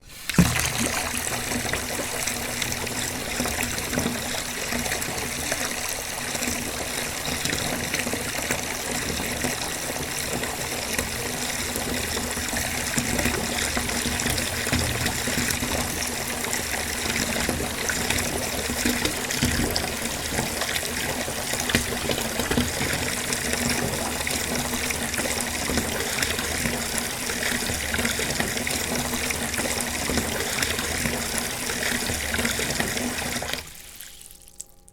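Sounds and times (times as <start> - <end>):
water gushing from tap into tub: 0.0 - 34.6.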